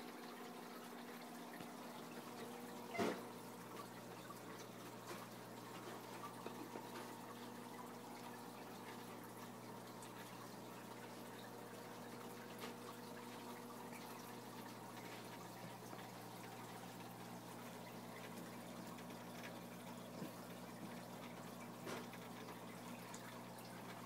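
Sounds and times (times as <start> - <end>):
aquarium filter hum: 0.0 - 24.0
water trickling: 0.0 - 24.0.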